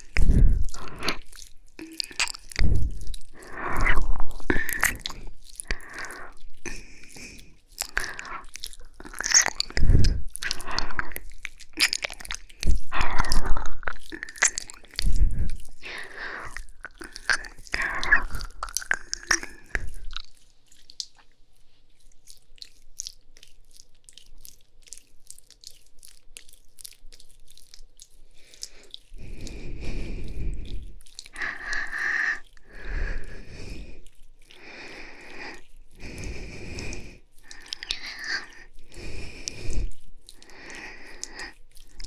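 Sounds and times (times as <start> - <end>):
wet tongue and lip sounds: 0.0 - 42.0.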